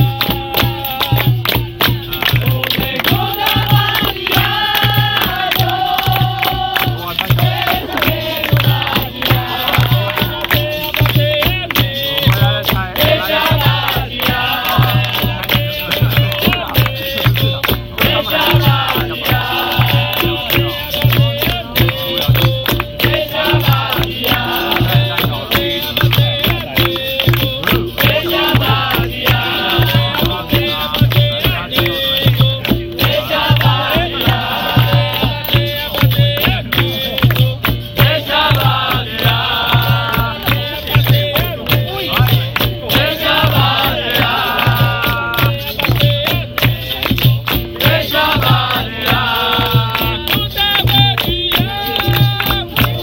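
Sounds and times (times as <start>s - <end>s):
sharp percussion clicks: 0.0s - 53.0s
steady pulsing drum beat: 0.0s - 53.0s
voices singing: 0.0s - 53.0s.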